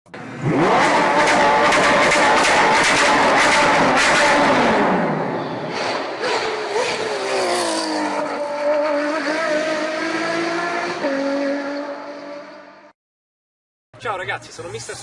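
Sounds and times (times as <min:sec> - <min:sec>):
car engine revving: 0:00.1 - 0:12.9.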